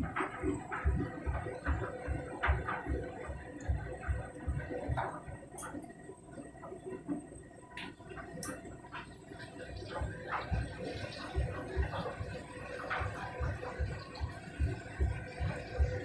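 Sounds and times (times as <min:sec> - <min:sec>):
water sloshing in washing machine: 0:00.0 - 0:06.6, 0:07.9 - 0:16.0.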